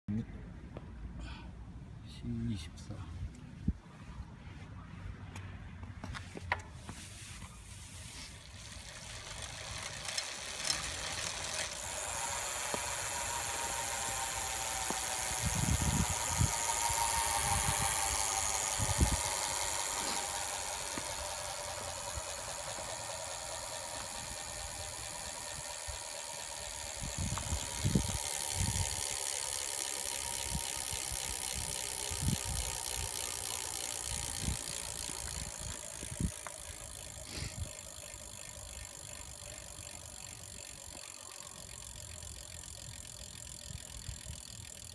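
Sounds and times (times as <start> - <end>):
bicycle hub freewheel ratchet buzz: 7.7 - 44.9.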